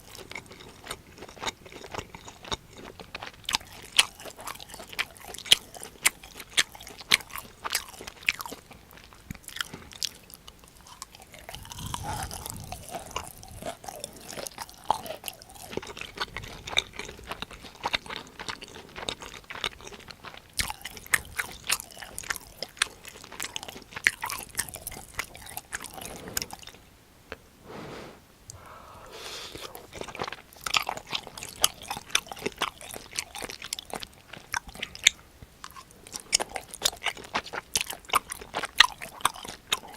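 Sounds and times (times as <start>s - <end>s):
crunching bites and chewing: 0.0s - 27.4s, 29.5s - 39.9s.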